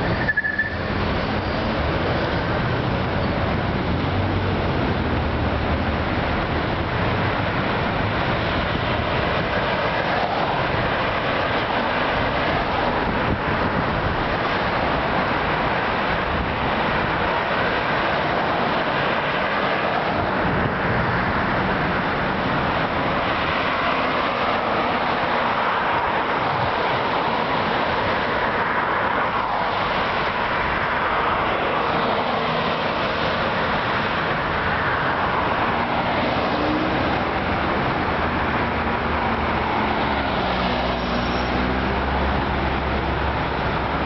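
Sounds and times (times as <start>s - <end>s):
cars driving past: 0.0s - 44.0s.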